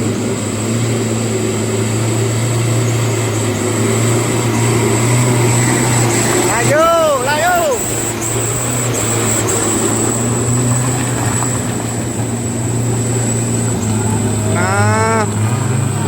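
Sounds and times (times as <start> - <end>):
truck diesel engine under load: 0.0 - 16.0.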